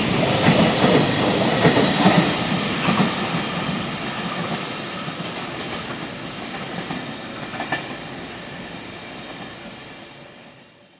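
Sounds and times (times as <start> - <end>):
train rumble: 0.0 - 10.4.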